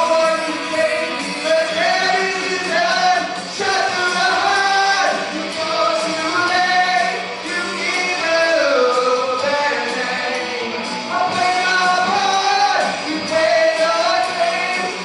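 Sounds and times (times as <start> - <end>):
loud rock accompaniment: 0.0 - 15.0
man singing with held notes: 0.0 - 15.0.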